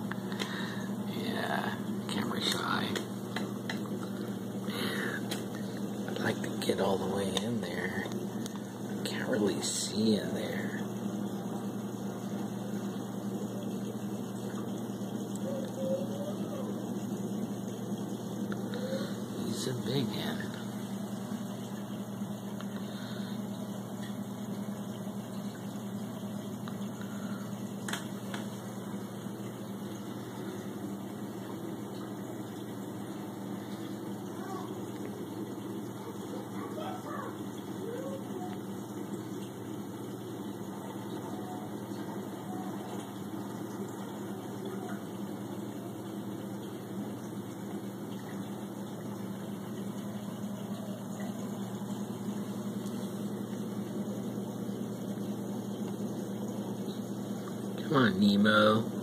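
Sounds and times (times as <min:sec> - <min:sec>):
aquarium pump humming: 0:00.0 - 0:59.0.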